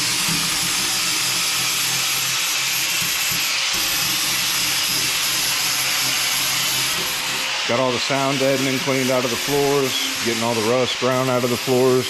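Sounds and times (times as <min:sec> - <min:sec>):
power tool running with hiss: 0:00.0 - 0:12.0.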